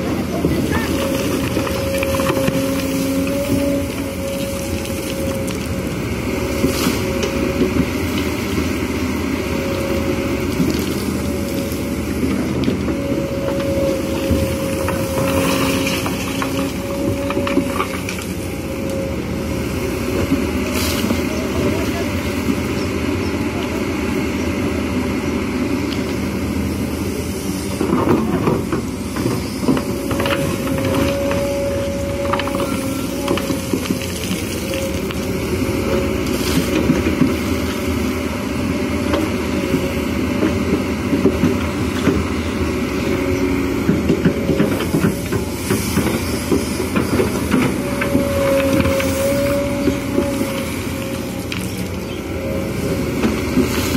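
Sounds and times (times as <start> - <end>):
high hydraulic whine: 0.0 - 40.7, 41.8 - 53.9
excavator diesel engine under load: 0.0 - 53.9.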